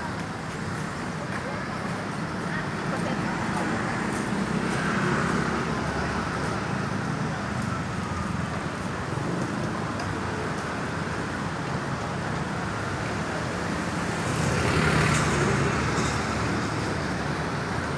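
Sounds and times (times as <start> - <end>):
passing vehicles: 0.0 - 17.9.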